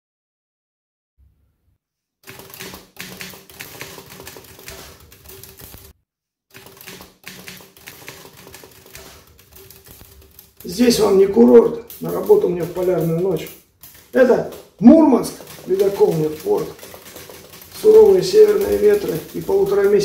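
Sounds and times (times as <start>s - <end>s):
typewriter typing: 2.2s - 5.9s, 6.5s - 20.0s.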